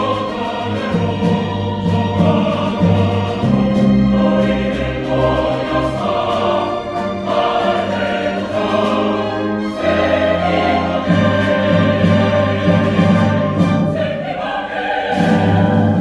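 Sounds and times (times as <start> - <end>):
mixed choir singing: 0.0 - 16.0
string orchestra: 0.0 - 16.0.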